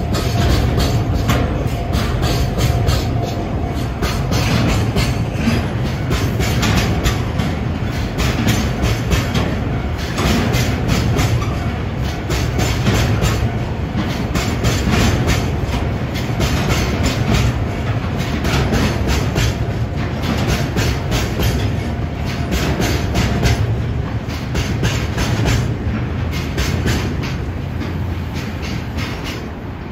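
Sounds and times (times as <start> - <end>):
freight train rumbling past: 0.0 - 29.9
train wheels clacking on rail joints: 0.0 - 29.9.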